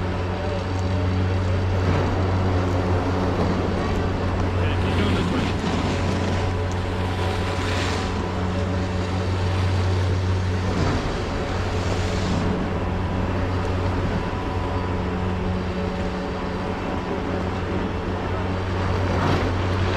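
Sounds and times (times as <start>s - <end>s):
chairlift motor hum: 0.0s - 19.9s
faint machinery whine: 0.0s - 19.9s.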